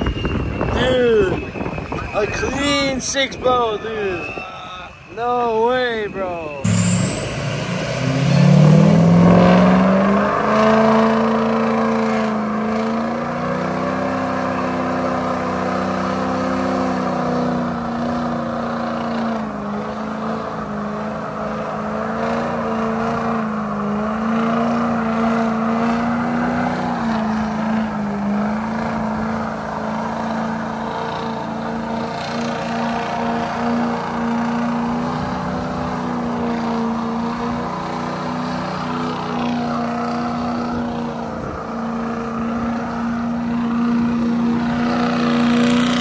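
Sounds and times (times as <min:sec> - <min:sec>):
diesel engine revving: 0:03.2 - 0:46.0.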